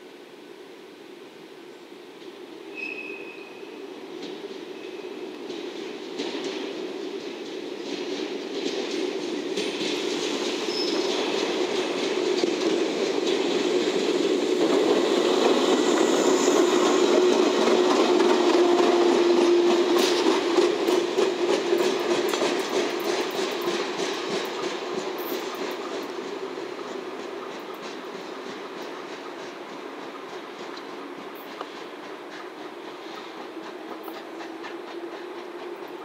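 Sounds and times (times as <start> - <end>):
electric train passing: 0.4 - 36.0
wheels clacking over rail joints: 5.5 - 36.0.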